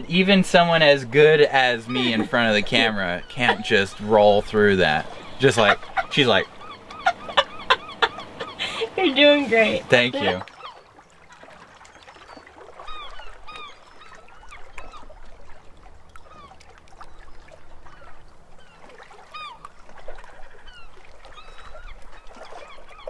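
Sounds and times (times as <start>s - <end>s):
birds calling: 0.0s - 11.0s, 11.8s - 15.3s, 16.1s - 23.0s.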